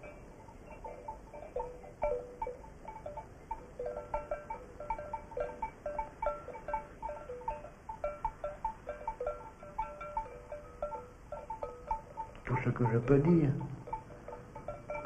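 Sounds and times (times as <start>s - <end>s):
livestock bells clinking: 0.0s - 15.0s.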